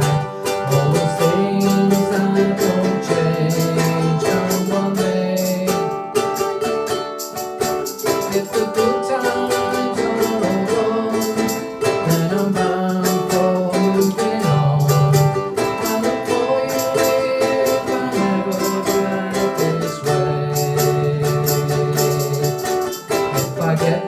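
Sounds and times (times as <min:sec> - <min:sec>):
person singing: 0:00.0 - 0:24.0
ukuleles strumming chords: 0:00.0 - 0:24.0.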